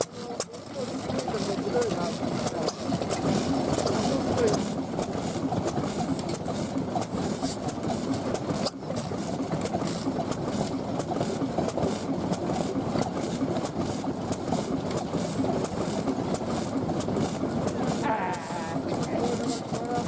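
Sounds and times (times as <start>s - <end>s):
old engine mechanical clatter: 0.0s - 20.0s.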